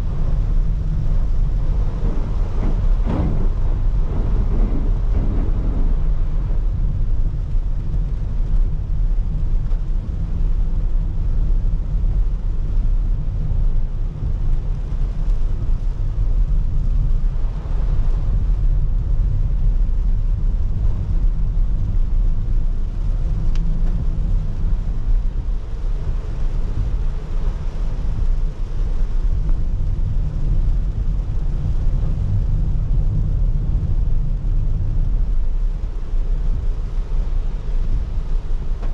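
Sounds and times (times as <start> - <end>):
rain and wet tyres hiss: 0.0 - 38.9
road and engine rumble: 0.0 - 38.9.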